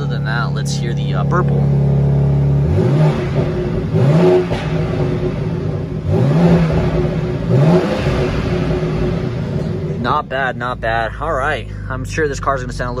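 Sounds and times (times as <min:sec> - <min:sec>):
car engine revving: 0:00.0 - 0:13.0
exhaust burble: 0:00.0 - 0:13.0.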